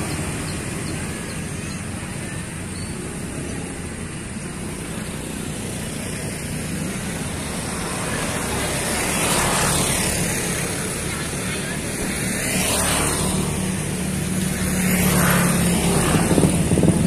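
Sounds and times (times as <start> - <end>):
motor scooter engines: 0.0 - 17.0.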